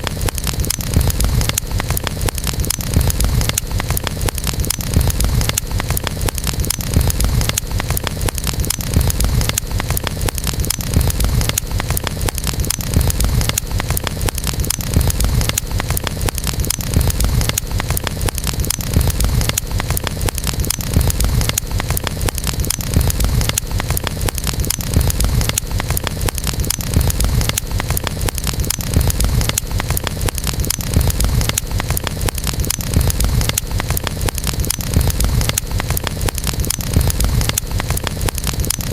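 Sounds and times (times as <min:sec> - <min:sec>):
campfire crackling and popping: 0:00.0 - 0:38.9
low fire rumble: 0:00.0 - 0:38.9.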